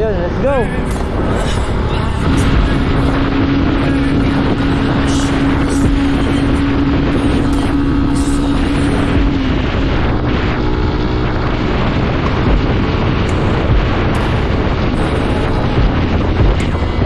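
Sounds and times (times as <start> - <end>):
motorcycle engine hum: 0.0 - 17.0
wind rushing over microphone: 0.0 - 17.0.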